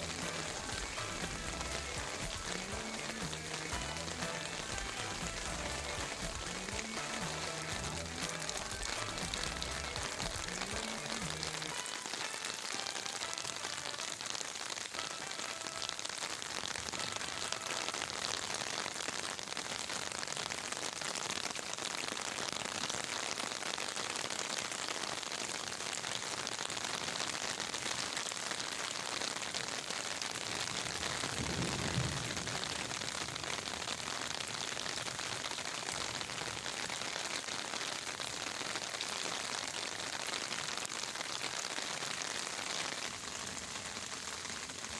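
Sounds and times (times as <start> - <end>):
heavy rain on leaves: 0.0 - 44.9.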